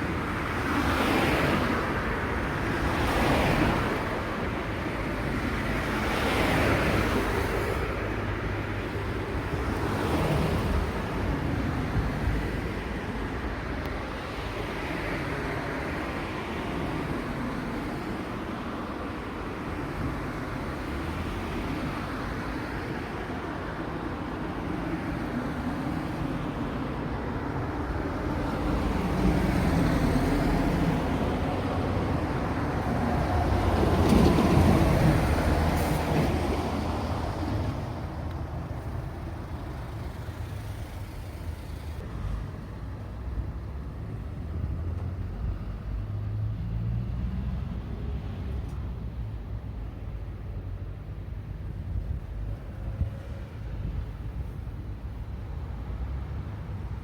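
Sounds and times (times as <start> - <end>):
vehicles driving past: 0.0 - 57.0.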